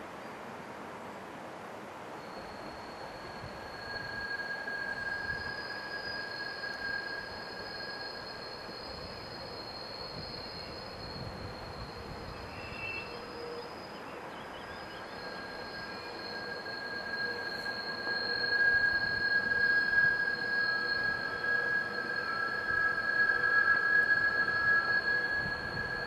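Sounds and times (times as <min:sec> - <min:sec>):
train wheels squealing: 0:02.1 - 0:26.0
wheels rumbling on rails: 0:02.4 - 0:26.0.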